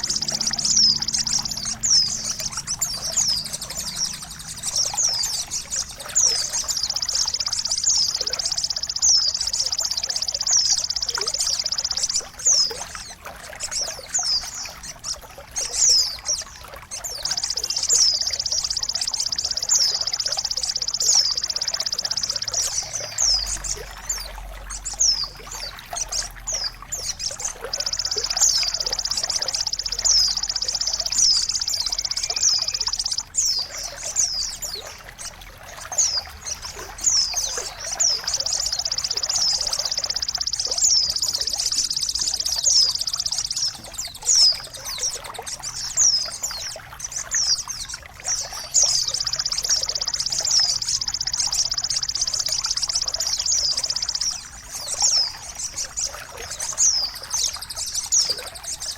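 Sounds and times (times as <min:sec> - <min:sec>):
running water: 0:00.0 - 0:58.9
songbird trilling: 0:00.0 - 0:58.9.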